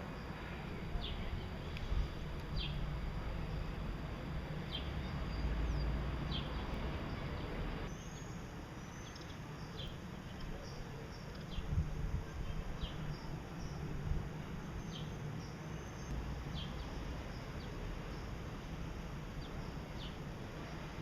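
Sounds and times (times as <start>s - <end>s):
steady low rumble: 0.0s - 7.9s, 9.9s - 21.0s.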